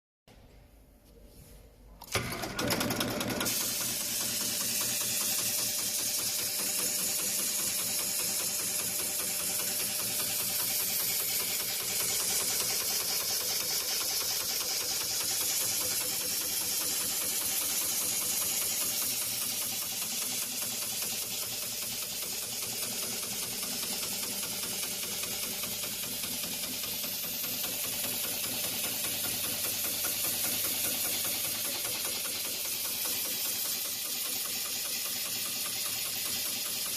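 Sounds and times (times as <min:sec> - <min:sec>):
industrial sewing machine stitching: 0:02.0 - 0:36.9
sewing machine hiss: 0:02.1 - 0:36.9.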